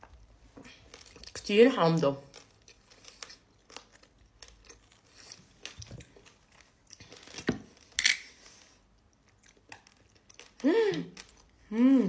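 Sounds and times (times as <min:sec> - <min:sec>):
small clicks and crinkles: 0:00.0 - 0:11.7.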